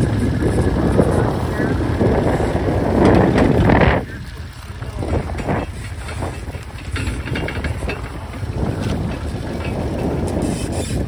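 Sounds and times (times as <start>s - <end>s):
farm vehicle engine running: 0.0s - 11.0s.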